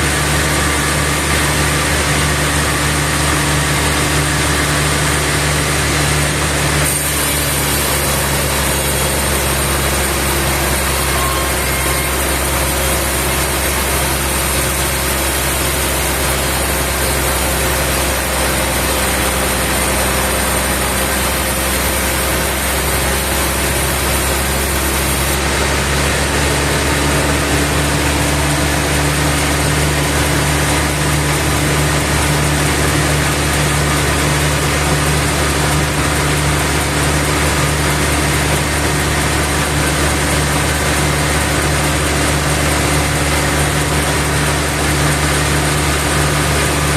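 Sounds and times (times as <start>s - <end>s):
sawmill machinery drone: 0.0s - 46.9s.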